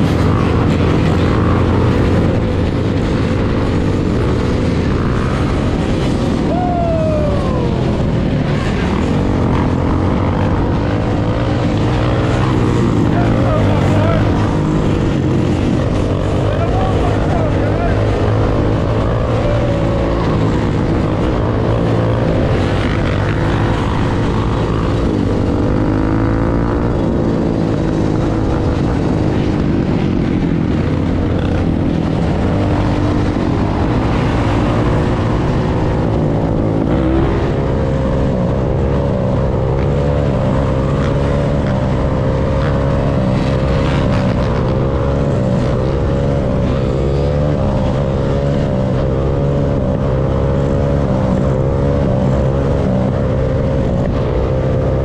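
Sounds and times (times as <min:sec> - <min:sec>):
dirt bike engines: 0:00.0 - 0:55.0
quad engine revving: 0:00.0 - 0:55.0
wind noise: 0:00.0 - 0:55.0.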